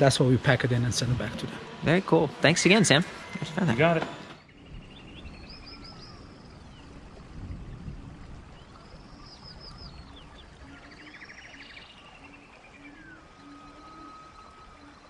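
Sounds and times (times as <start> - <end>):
birds chirping: 0.0 - 15.0
low steady background noise: 0.0 - 15.0.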